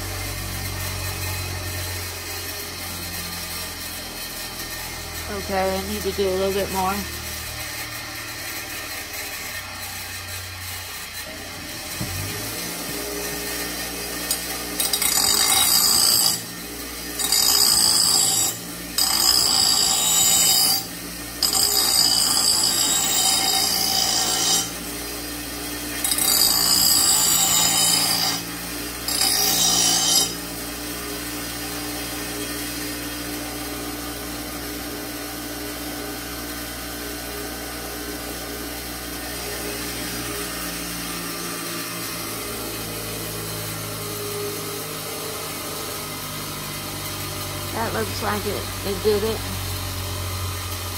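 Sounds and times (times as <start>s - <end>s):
bench grinder motor humming: 0.0s - 50.9s
grinding metal blade: 0.0s - 50.9s.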